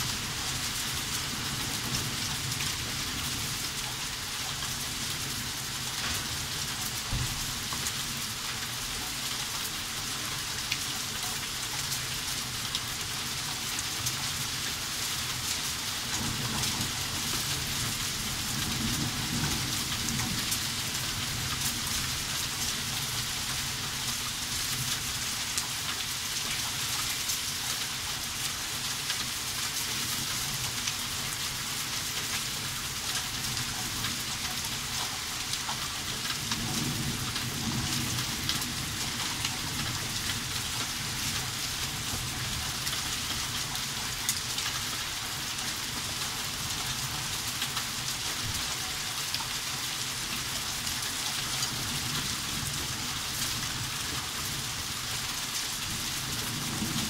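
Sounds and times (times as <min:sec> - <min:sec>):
heavy rain and hail: 0:00.0 - 0:57.0.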